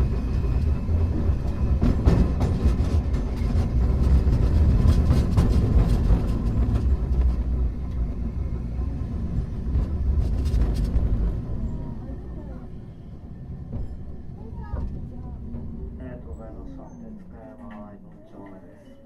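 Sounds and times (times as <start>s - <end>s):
wheels clattering on rails: 0.0s - 16.5s
tram wheels rumbling: 0.0s - 19.0s.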